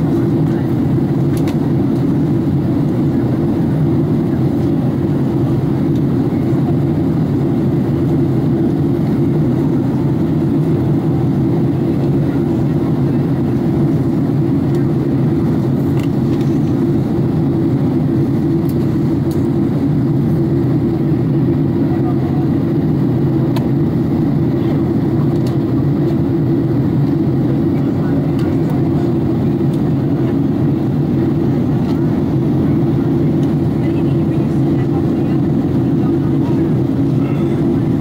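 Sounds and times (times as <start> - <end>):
jet airliner cabin noise: 0.0 - 38.0.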